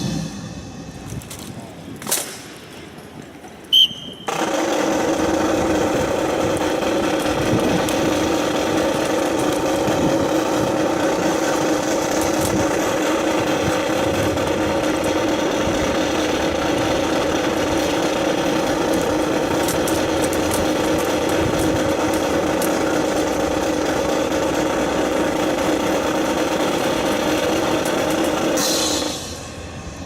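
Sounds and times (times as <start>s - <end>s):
loud engine drone: 4.3s - 30.0s.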